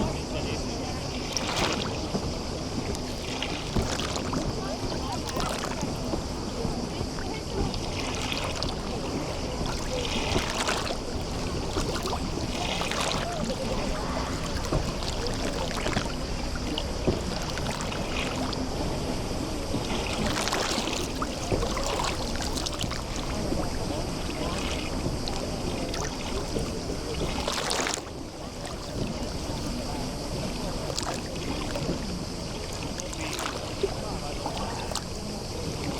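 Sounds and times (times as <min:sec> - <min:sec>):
sea water lapping: 0:00.0 - 0:35.9
water splashes: 0:00.0 - 0:35.9.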